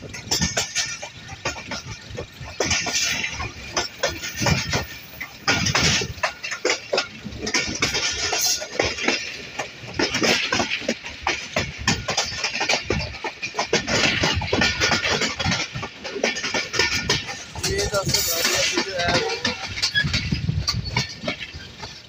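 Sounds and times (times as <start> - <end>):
train wheels clattering over rail joints: 0.0 - 22.0.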